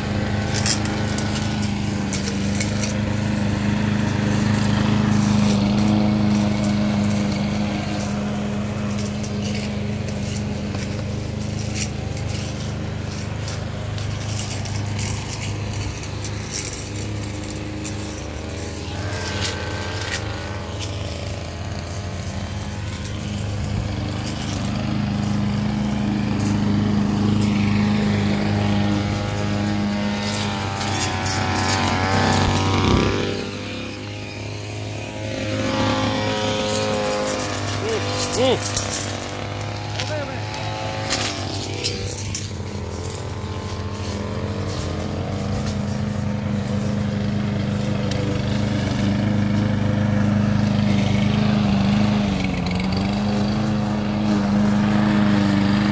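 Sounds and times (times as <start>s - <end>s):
brush cutter engines droning: 0.0s - 55.9s.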